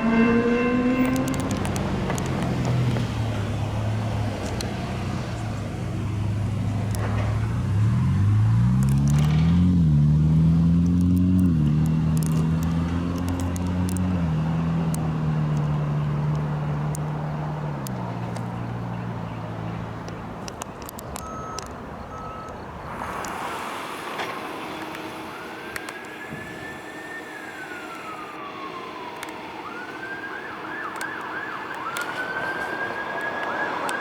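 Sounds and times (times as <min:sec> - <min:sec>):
vehicle engine accelerating: 0:00.0 - 0:34.0.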